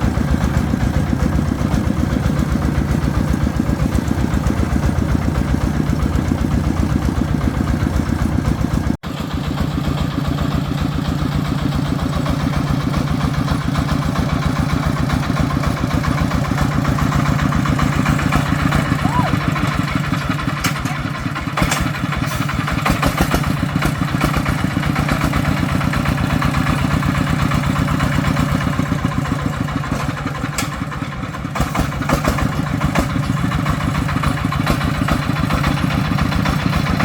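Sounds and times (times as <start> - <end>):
truck engine chugging: 0.0 - 37.0.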